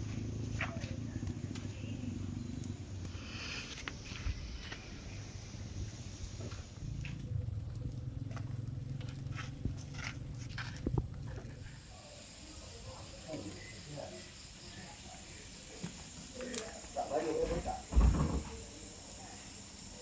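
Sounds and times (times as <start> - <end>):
firewood crackling: 0.0 - 20.0
low rumble of fire: 0.0 - 20.0.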